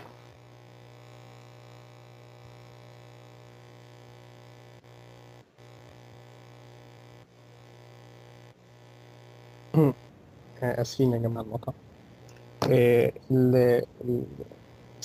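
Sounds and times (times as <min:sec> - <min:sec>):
faint electrical mains hum: 0:00.0 - 0:15.0.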